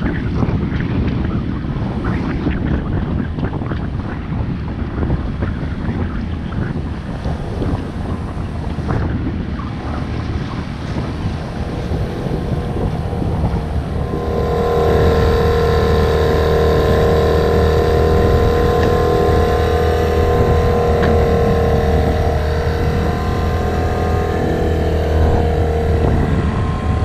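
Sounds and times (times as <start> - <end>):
outboard motor droning: 0.0 - 27.0
wind buffeting microphone: 0.0 - 27.0.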